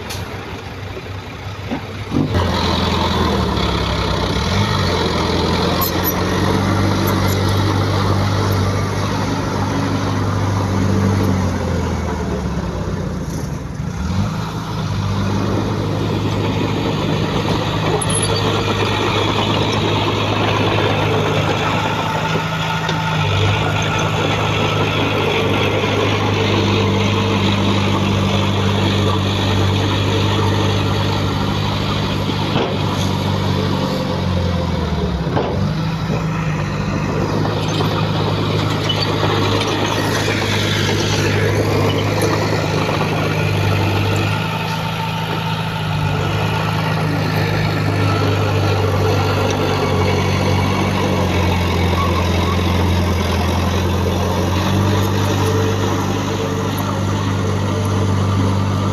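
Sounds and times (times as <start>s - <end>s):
heavy diesel engine running: 0.0s - 58.9s.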